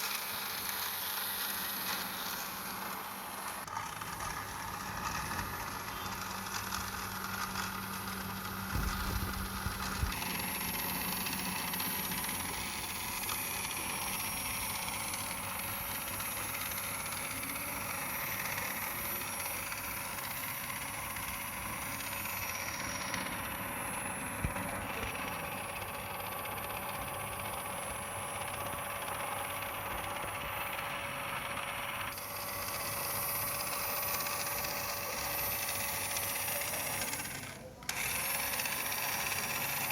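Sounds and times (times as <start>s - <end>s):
toy car electric motor whine: 0.0s - 39.9s.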